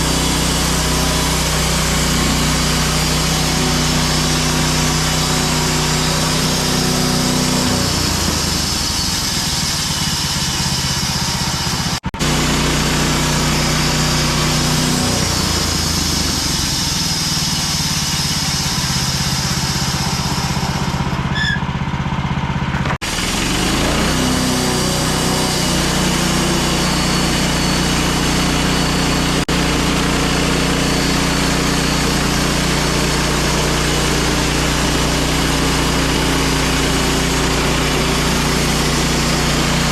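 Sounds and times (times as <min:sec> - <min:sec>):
sawmill engine cutting log: 0:00.0 - 0:39.9.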